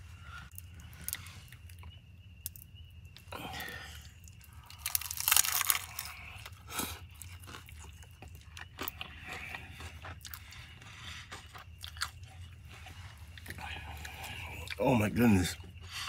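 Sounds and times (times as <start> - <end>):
person chewing with crunches: 0.0 - 16.0.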